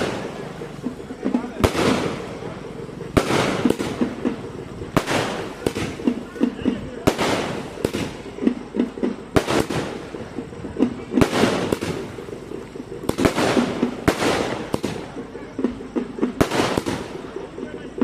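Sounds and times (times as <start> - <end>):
firework bangs: 0.0 - 18.0
hissing crackle of shells: 0.0 - 18.0.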